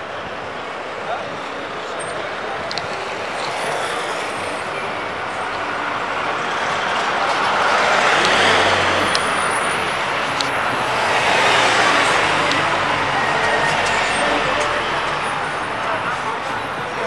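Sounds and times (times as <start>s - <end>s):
bus passing close: 0.0s - 17.0s
city street traffic: 0.0s - 17.0s.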